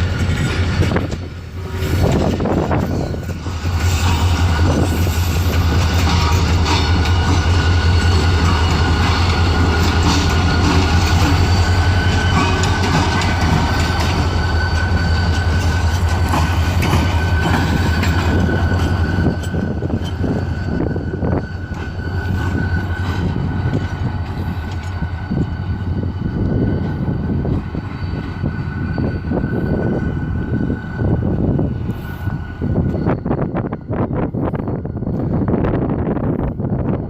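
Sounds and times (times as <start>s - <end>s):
train wheels clattering over rail joints: 0.0s - 33.2s
diesel locomotive drone: 0.0s - 37.0s
thin steady squeal: 1.8s - 37.0s.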